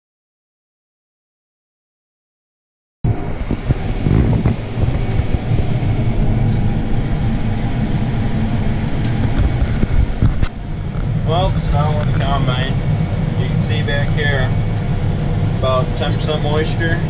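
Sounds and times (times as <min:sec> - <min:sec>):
combine harvester droning: 0:03.1 - 0:17.0.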